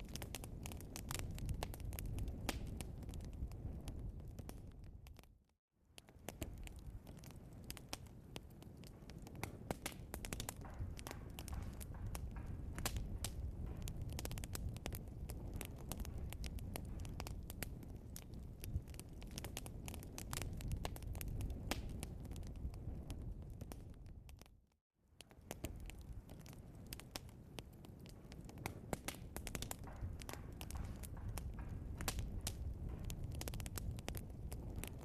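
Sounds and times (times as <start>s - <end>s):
fire rumbling in fireplace: 0.0s - 35.0s
wood crackling and popping: 0.0s - 35.0s.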